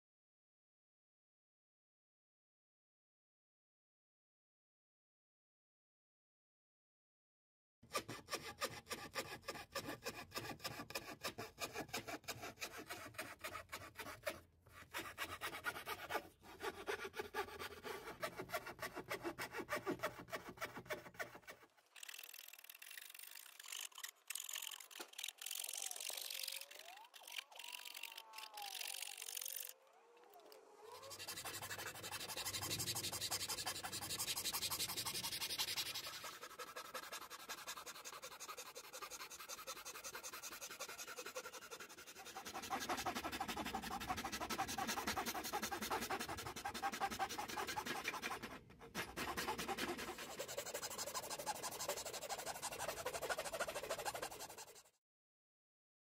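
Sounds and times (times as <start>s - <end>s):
hand file scraping wood: 7.9s - 55.0s.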